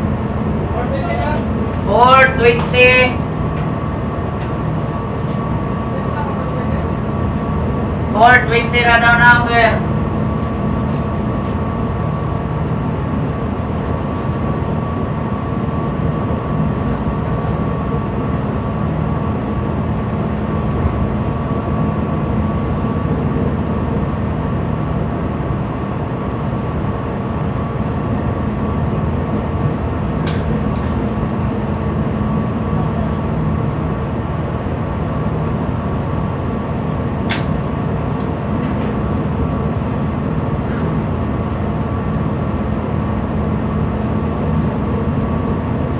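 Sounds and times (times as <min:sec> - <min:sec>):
ship engine droning: 0:00.0 - 0:45.9.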